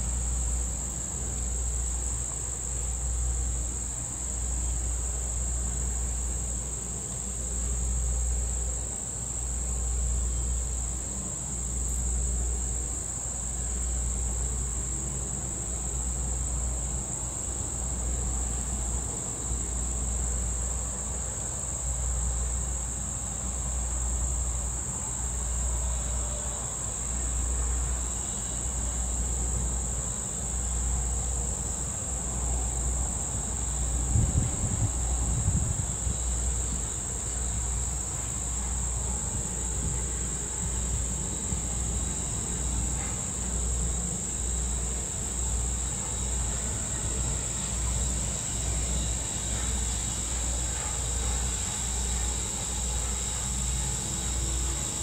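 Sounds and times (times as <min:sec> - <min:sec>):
insects buzzing in chorus: 0:00.0 - 0:55.0.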